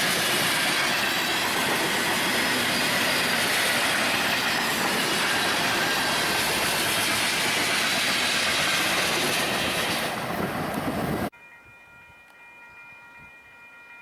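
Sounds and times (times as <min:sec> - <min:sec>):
train wheels on rails: 0:00.0 - 0:11.3.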